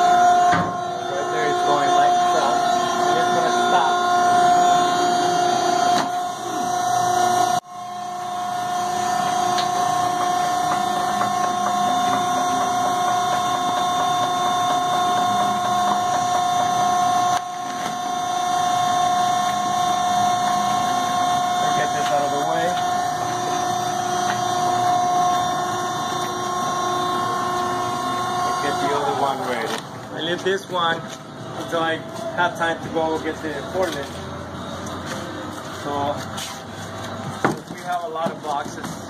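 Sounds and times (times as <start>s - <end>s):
hydraulic unit whining: 0.0s - 39.0s.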